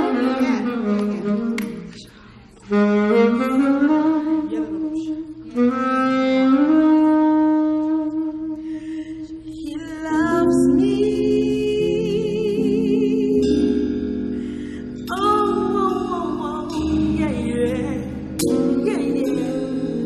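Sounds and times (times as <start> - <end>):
musical accompaniment: 0.0 - 20.0
slow gospel lead melody: 0.0 - 20.0.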